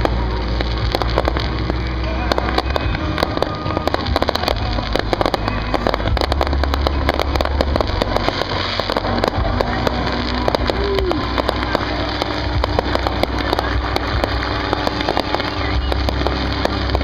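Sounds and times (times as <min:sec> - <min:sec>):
fireworks crackling and popping: 0:00.0 - 0:17.0
low rumble: 0:00.0 - 0:17.0.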